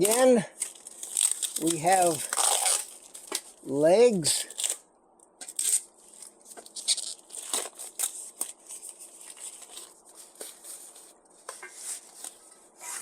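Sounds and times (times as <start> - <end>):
packing material crinkling: 0.0 - 3.7, 4.4 - 4.8, 5.4 - 13.0.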